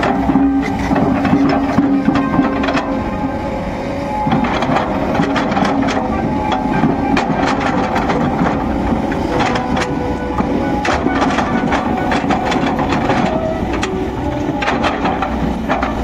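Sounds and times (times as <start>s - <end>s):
clanks and knocks: 0.0s - 3.2s, 4.2s - 16.0s
excavator engine and hydraulics droning: 0.0s - 16.0s.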